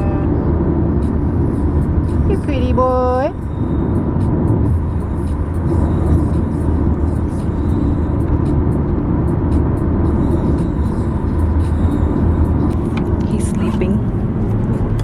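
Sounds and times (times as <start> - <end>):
car road rumble inside cabin: 0.0 - 15.0.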